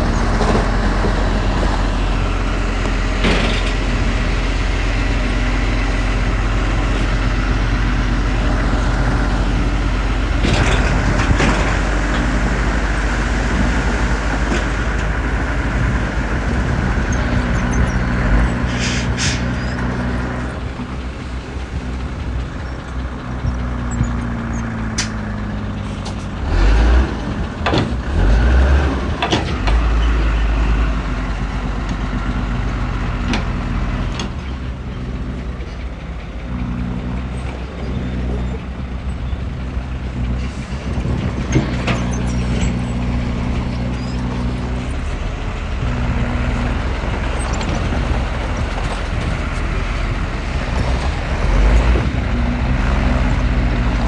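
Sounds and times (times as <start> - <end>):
diesel engine running and revving: 0.0 - 54.0.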